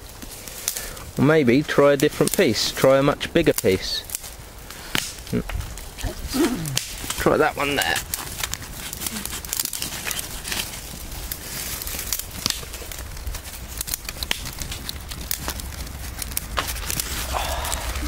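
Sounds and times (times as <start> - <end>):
dry leaves and twigs rustling: 0.0 - 18.0.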